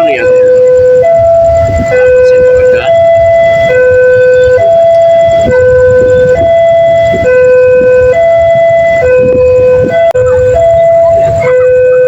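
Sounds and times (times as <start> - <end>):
two-tone crossing warning siren: 0.0 - 12.0.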